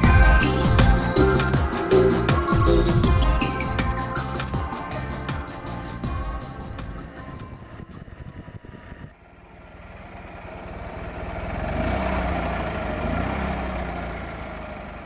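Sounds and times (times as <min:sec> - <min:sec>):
motorcycle engine blipping: 0:00.0 - 0:12.9.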